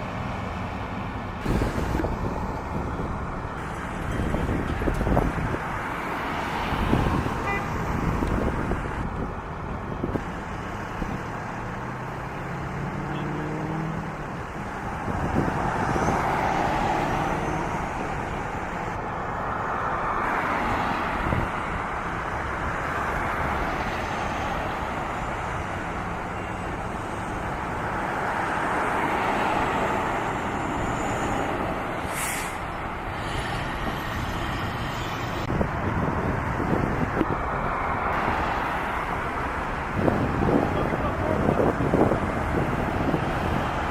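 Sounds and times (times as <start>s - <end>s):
engine and tyre noise: 0.0s - 43.9s
vehicles passing: 0.0s - 43.9s.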